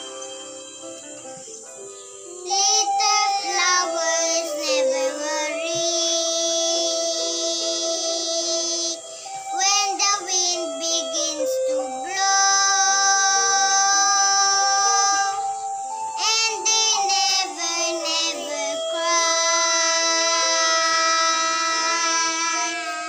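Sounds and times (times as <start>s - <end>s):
girl singing: 2.2s - 23.0s.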